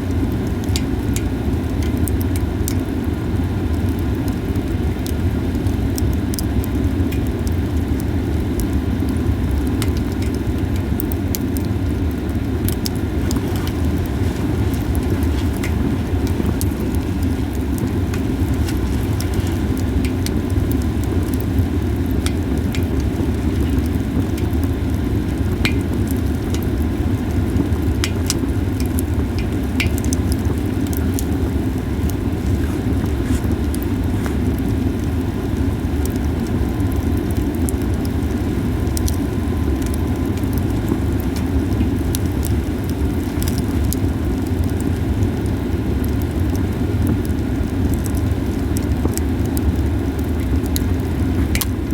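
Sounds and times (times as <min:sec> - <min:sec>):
campfire crackling and popping: 0:00.0 - 0:51.9
low fire rumble: 0:00.0 - 0:51.9.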